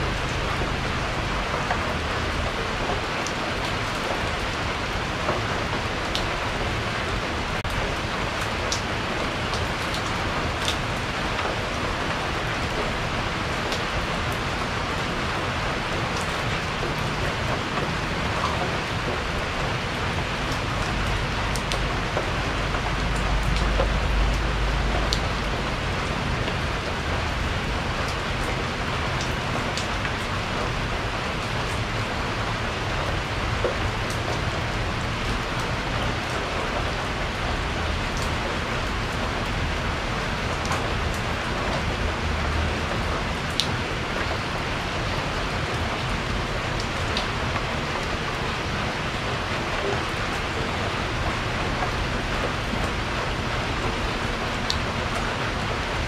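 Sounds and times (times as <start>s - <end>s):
rain falling on a porch: 0.0s - 56.0s.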